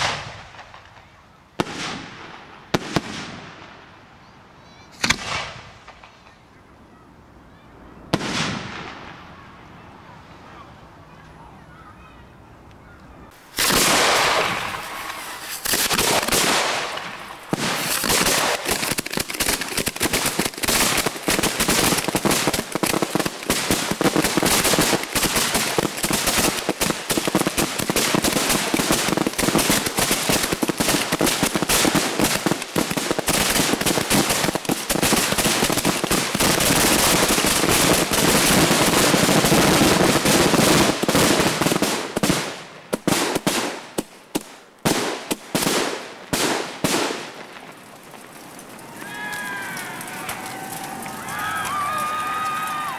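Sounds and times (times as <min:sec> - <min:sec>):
fireworks rapid bangs and crackle: 0:00.0 - 0:04.0, 0:04.7 - 0:06.4, 0:08.1 - 0:09.3, 0:13.3 - 0:48.9.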